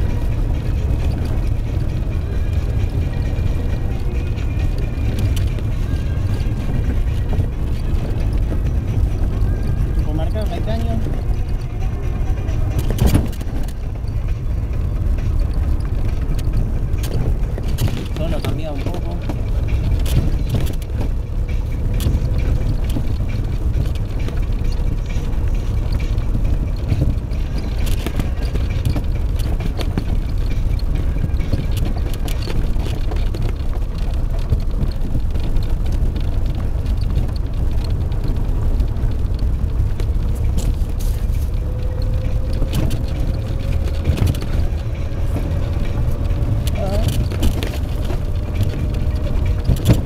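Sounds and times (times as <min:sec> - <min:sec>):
car road and engine rumble: 0:00.0 - 0:50.0
faint engine whine: 0:00.0 - 0:50.0
knocks and rattles: 0:00.0 - 0:50.0.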